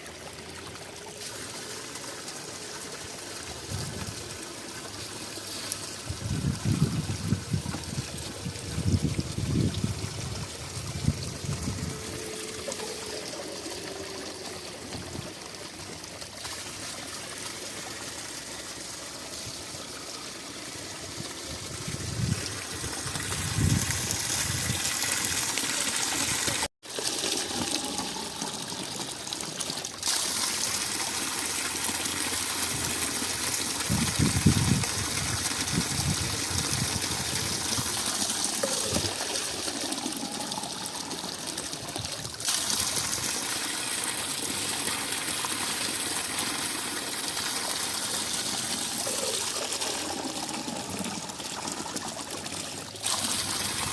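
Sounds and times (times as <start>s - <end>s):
spring water gushing: 0.0s - 53.9s.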